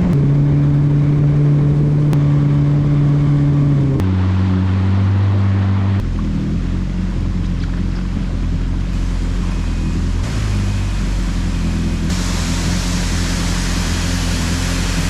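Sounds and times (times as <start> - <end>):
jet ski engine running: 0.0 - 15.0
water rushing along hull: 0.0 - 15.0.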